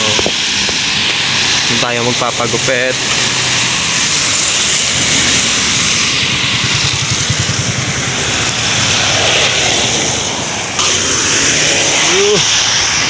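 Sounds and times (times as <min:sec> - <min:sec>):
vehicle engine running: 0:00.0 - 0:13.0
wind and wet road noise: 0:00.0 - 0:13.0.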